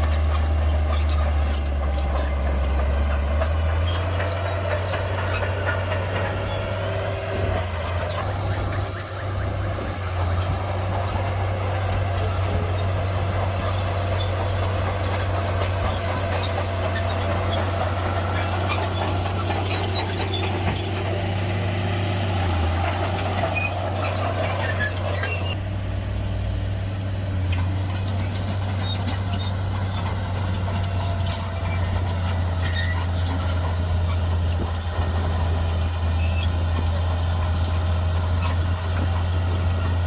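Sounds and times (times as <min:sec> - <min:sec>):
light clanks and rattles: 0:00.0 - 0:25.6, 0:27.4 - 0:40.0
deep diesel engine drone: 0:00.0 - 0:40.0.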